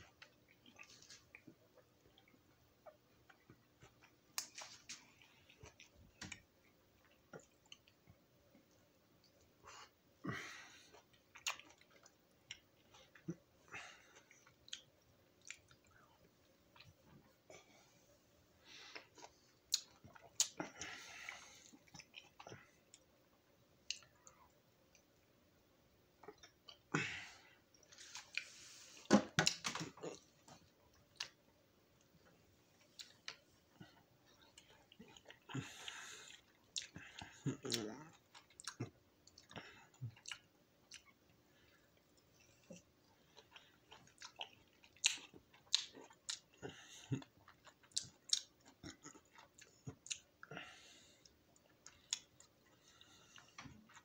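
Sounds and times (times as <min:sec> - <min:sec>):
mouth chewing juicy fruit: 0:00.0 - 0:09.9, 0:10.8 - 0:18.0, 0:18.7 - 0:23.1, 0:27.7 - 0:31.4, 0:32.2 - 0:54.0.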